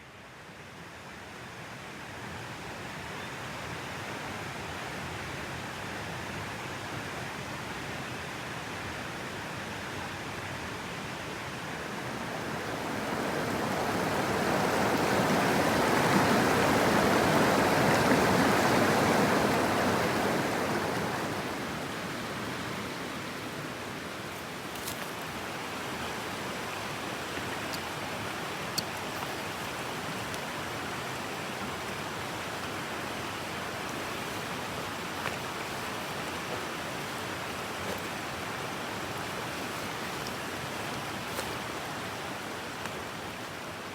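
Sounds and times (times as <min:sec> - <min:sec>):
stream water rushing: 0:08.6 - 0:43.9.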